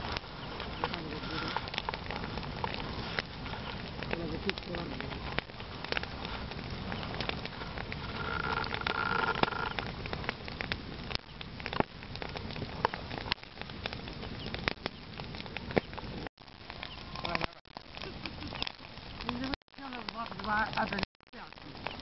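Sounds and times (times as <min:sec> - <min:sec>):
bonfire crackling: 0:00.0 - 0:22.0
fire hissing: 0:00.0 - 0:22.0.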